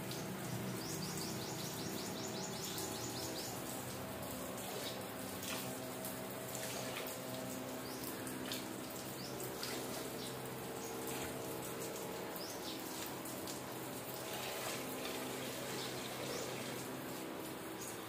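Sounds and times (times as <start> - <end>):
steady low hum: 0.0 - 18.0
hose water splashing on mat: 2.1 - 18.0.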